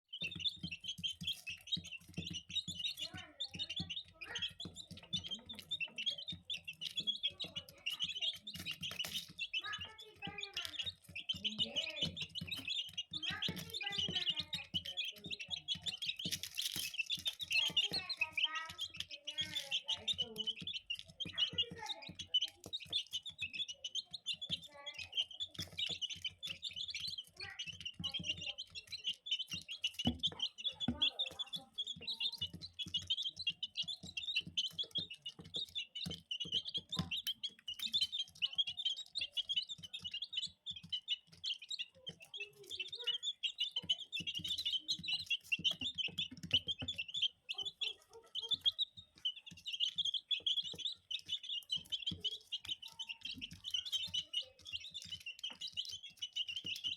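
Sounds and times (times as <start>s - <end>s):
baby chicks peeping: 0.0s - 56.9s
pecking taps and clicks: 0.1s - 56.9s.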